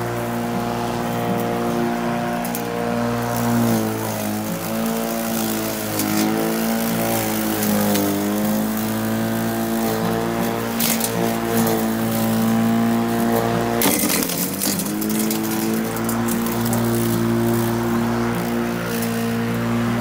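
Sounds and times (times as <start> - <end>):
electric lawn mower running: 0.0 - 20.0.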